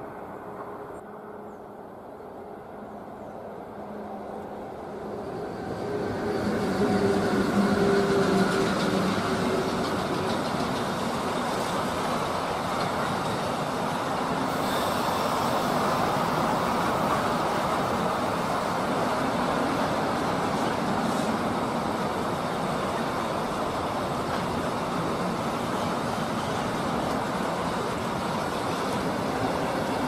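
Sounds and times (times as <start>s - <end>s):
electric locomotive hum: 0.0s - 30.0s
freight train wheels rumbling: 0.0s - 30.0s.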